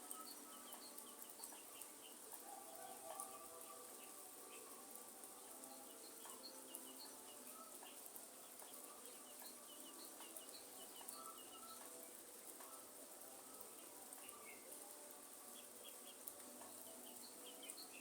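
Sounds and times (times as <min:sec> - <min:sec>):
light rain hiss: 0:00.0 - 0:18.0.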